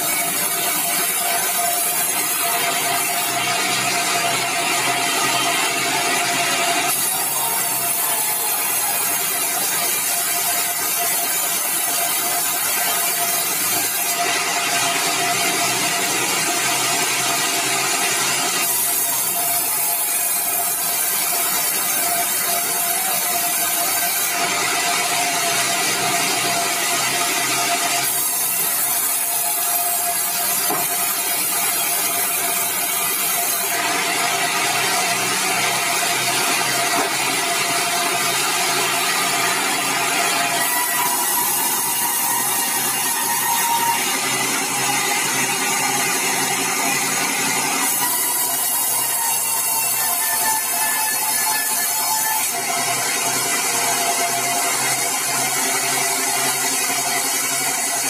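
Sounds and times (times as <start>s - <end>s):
band saw whine and rasp: 0.0s - 58.0s.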